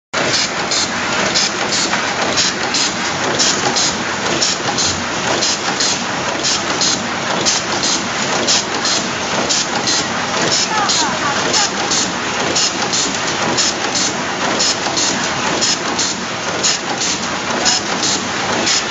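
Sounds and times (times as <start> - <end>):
crimping machine running: 0.2 - 18.9.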